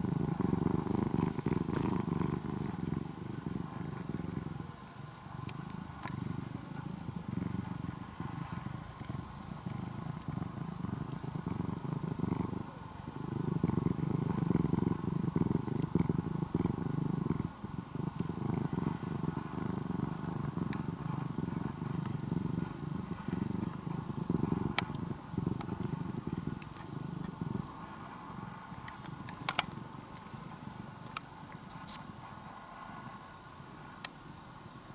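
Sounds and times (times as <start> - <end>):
cat purring: 0.0 - 34.1.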